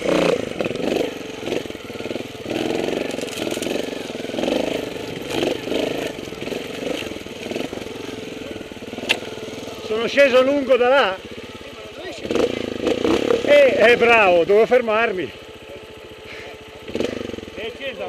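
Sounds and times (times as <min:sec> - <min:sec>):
motorcycle engine at low revs: 0:00.0 - 0:18.0.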